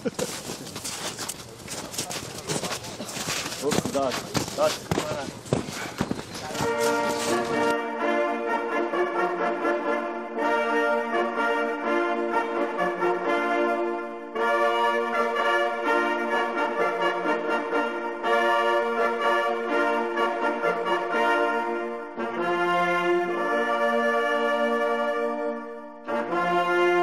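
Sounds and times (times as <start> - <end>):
hunting horns blowing: 0.0 - 27.0.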